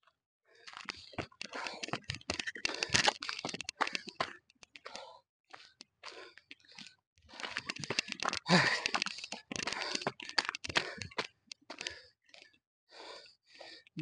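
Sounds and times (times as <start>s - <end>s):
man panting: 0.7s - 14.0s.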